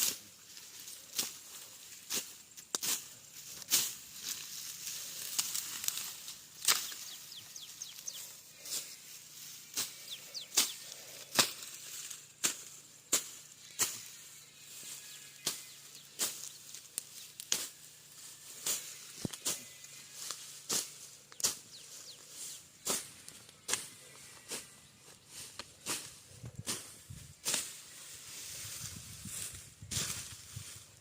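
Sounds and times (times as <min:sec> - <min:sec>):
hand tool cutting grass: 0:00.0 - 0:30.8.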